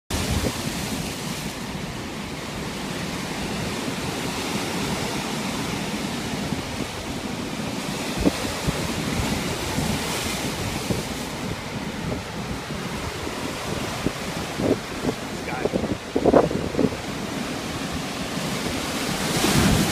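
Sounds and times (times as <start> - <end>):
surf washing over rocks: 0.1 - 19.9
wind buffeting microphone: 0.1 - 19.9.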